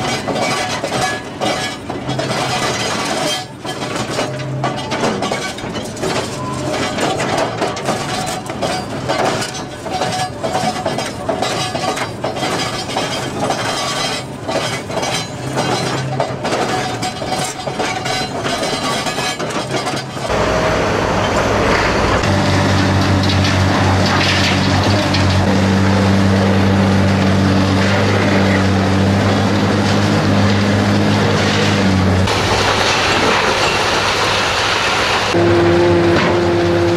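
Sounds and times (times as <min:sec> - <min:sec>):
concrete crushing and cracking: 0:00.0 - 0:20.3, 0:22.2 - 0:35.4
excavator engine hum: 0:00.0 - 0:36.9.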